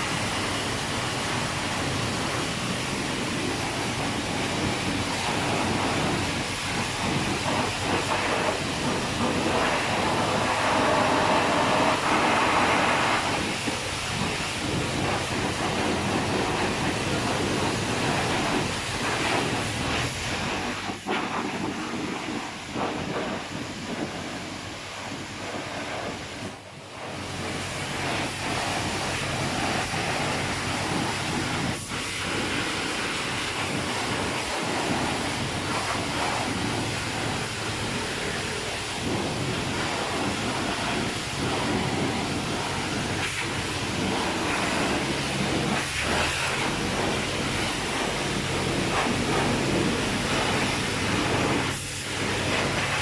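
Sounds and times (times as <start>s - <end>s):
rushing noise inside car: 0.0s - 53.0s.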